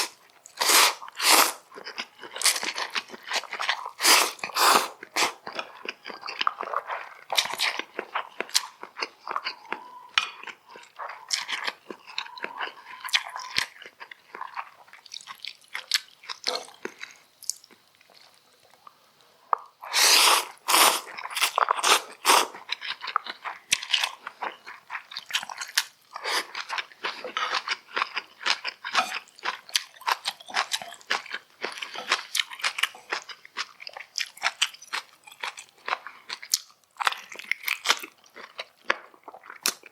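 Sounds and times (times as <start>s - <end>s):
person chewing and biting food: 0.0s - 19.0s, 19.6s - 39.9s.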